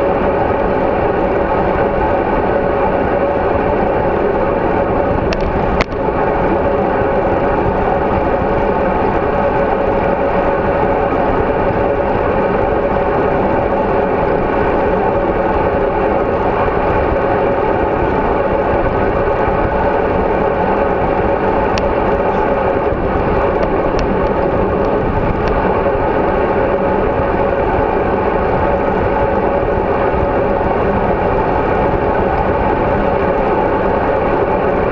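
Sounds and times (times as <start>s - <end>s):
bicycle road noise: 0.0s - 34.9s
wind rush: 0.0s - 34.9s.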